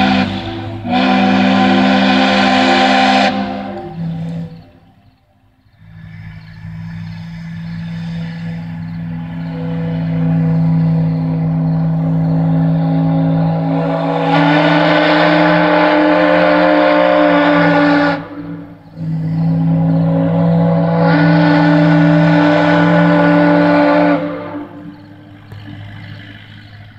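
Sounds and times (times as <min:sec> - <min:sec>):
steam whistles blasting: 0:00.0 - 0:26.7.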